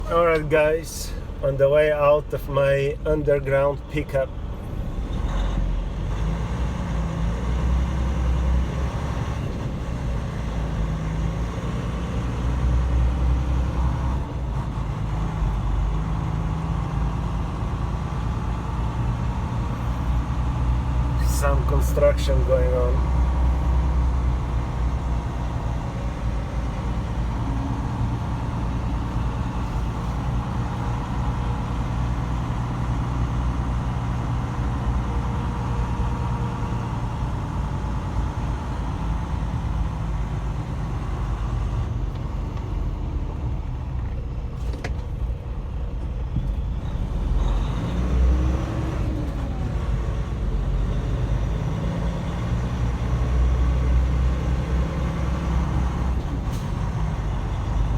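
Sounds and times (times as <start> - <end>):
truck diesel engine droning: 0.0 - 57.9.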